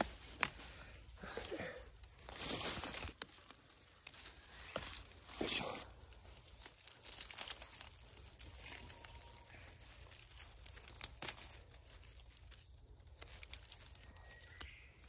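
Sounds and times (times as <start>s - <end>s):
dry leaves crackling and rustling: 0.0s - 15.0s.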